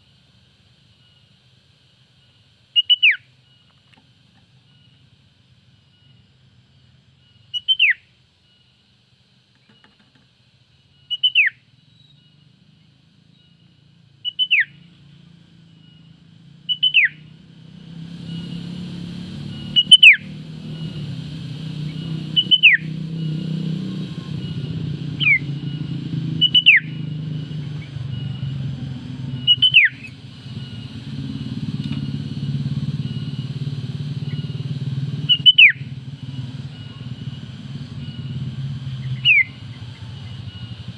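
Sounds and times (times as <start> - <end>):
low steady rumble with hiss: 0.0 - 40.9.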